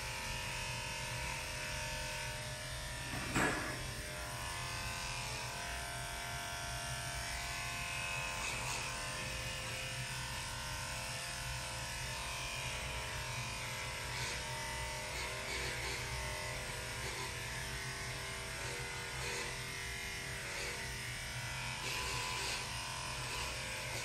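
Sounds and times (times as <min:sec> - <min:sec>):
electric clipper motor hum: 0:00.0 - 0:24.0.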